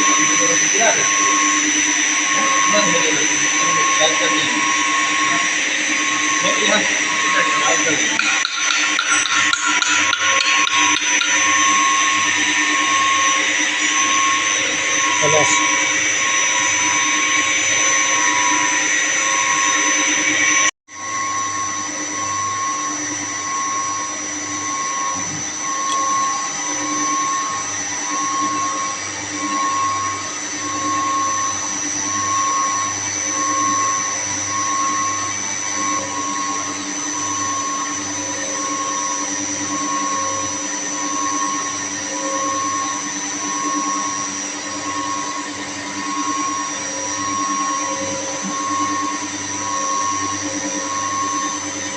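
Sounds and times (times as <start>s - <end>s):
high whine: 0.0s - 51.9s
machinery humming: 0.0s - 51.9s
pulsing mid tone: 0.0s - 51.9s.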